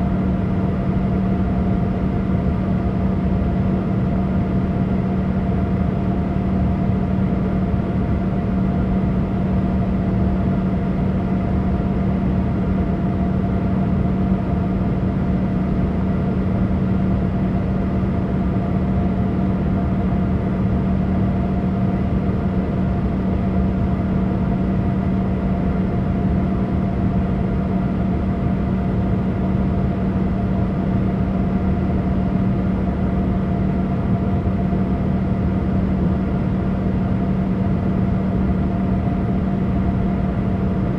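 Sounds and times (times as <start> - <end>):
aircraft cabin engine and airflow noise: 0.0 - 40.9
steady low hum: 0.0 - 40.9.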